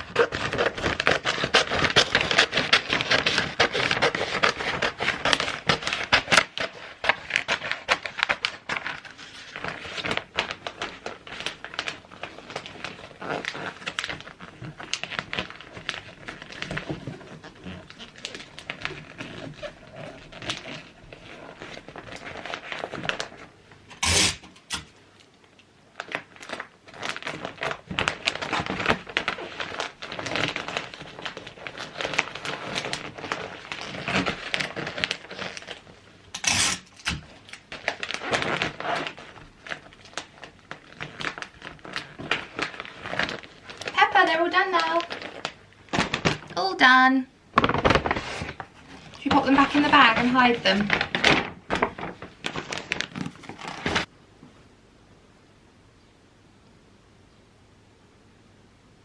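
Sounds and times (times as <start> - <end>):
wrapping paper crinkling: 0.0 - 54.1.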